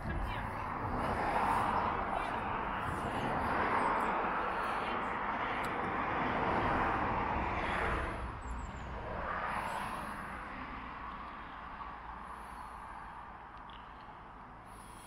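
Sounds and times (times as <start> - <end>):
passing vehicles on road: 0.0 - 15.0.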